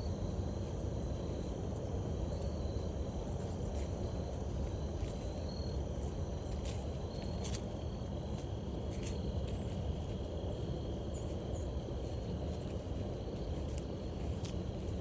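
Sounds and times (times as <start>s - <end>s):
crickets trilling: 0.0s - 15.0s
distant train rumble: 0.0s - 15.0s.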